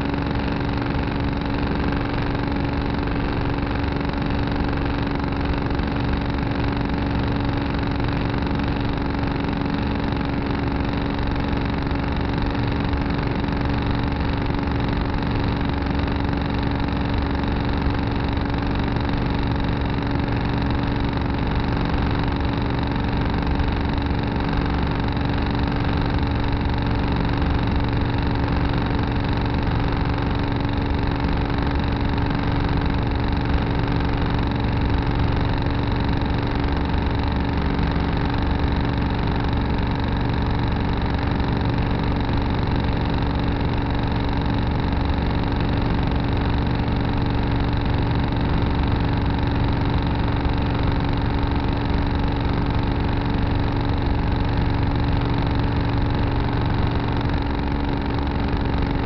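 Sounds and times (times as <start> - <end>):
tractor engine running steadily: 0.0 - 59.0.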